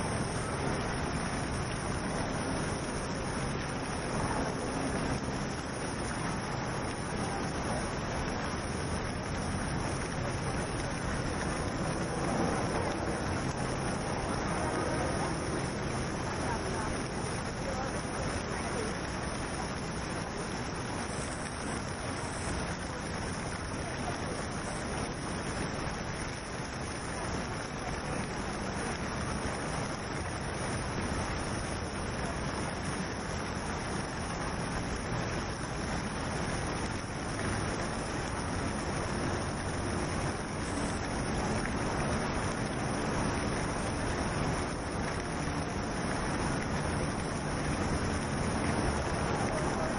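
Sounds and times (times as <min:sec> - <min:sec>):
fountain splashing into pool: 0:00.0 - 0:49.9.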